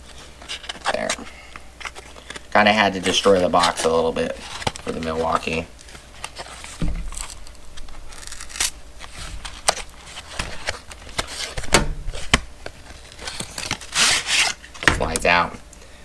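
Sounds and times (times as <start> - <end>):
cardboard tearing and crinkling: 1.8 - 15.2.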